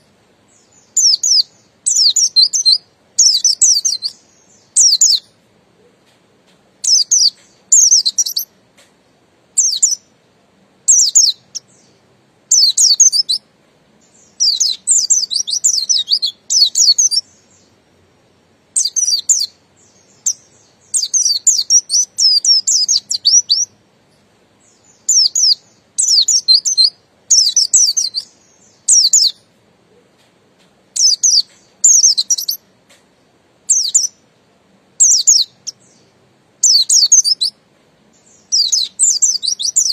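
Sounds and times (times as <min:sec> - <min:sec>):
bird twittering chirps: 0:00.0 - 0:05.4, 0:06.8 - 0:08.6, 0:09.6 - 0:10.1, 0:10.8 - 0:17.9, 0:18.7 - 0:29.5, 0:30.9 - 0:32.7, 0:33.7 - 0:34.2, 0:35.0 - 0:39.9.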